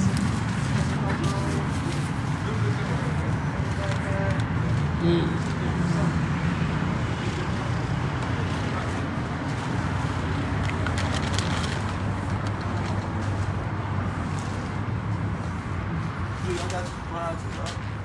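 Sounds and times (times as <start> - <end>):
traffic noise with low hum: 0.0 - 18.0.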